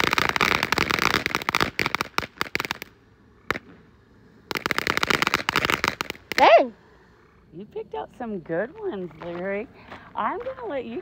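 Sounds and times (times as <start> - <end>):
firework fountain crackling: 0.0 - 9.7.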